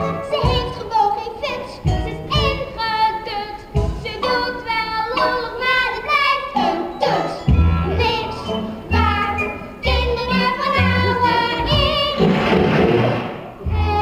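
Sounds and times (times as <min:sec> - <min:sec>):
upbeat show tune: 0:00.0 - 0:14.0.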